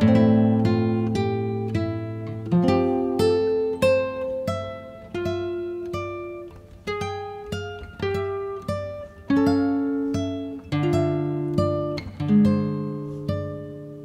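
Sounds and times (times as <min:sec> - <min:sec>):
acoustic guitar plucked melody: 0:00.0 - 0:14.0.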